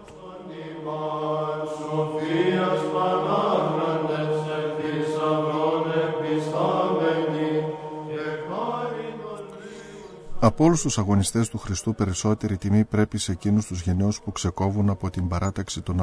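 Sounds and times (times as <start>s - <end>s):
person chanting slow melody: 0.0s - 16.0s.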